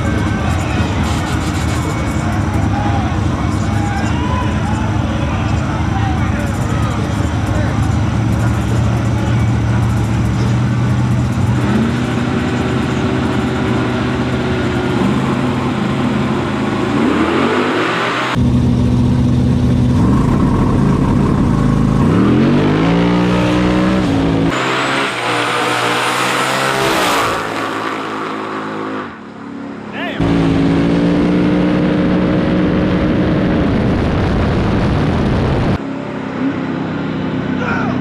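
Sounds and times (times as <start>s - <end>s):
drag race car engines revving: 0.0s - 38.0s.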